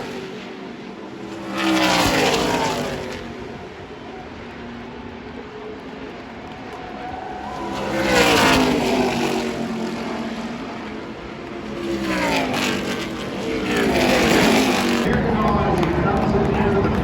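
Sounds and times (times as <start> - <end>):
race truck engines passing: 0.0 - 17.0.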